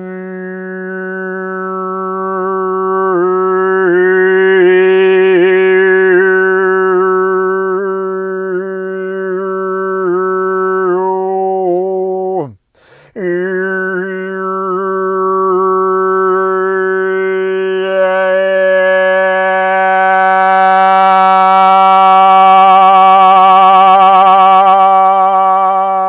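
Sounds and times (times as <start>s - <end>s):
man overtone chanting: 0.0s - 26.0s.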